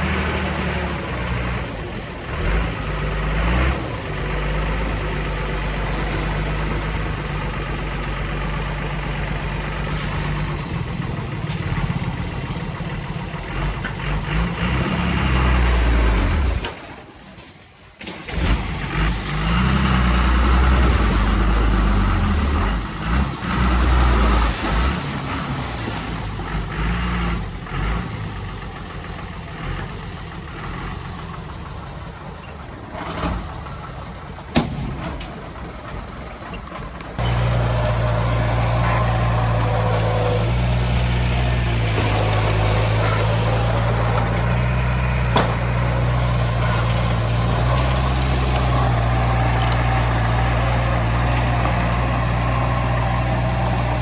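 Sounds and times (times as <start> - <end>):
diesel engines revving: 0.0 - 54.0.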